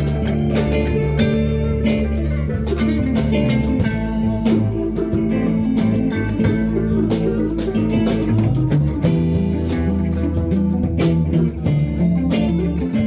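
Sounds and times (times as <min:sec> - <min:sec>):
drum hits: 0:00.0 - 0:13.0
live blues band playing: 0:00.0 - 0:13.0.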